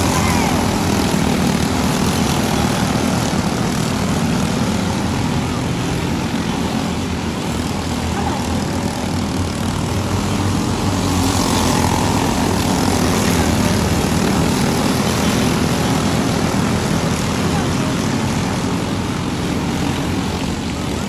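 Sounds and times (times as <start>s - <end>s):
kart engines droning: 0.0s - 21.0s.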